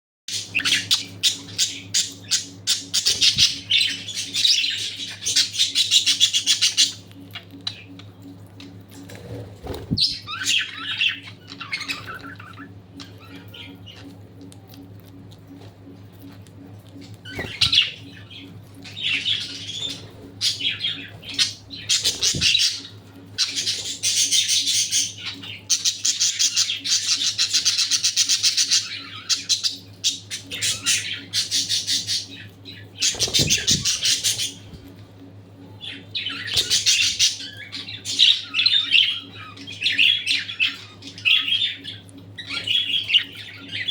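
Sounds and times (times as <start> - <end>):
budgerigars chattering and squawking: 0.3 - 8.0, 9.0 - 14.1, 17.2 - 34.9, 35.8 - 43.9
steady low hum: 0.3 - 43.9.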